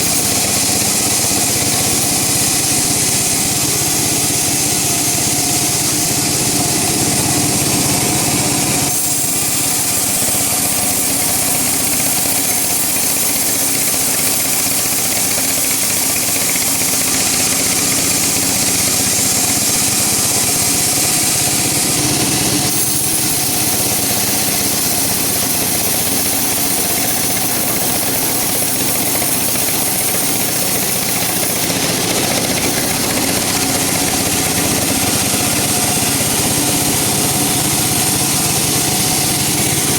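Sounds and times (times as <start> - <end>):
woodworking machinery running: 0.0 - 39.9.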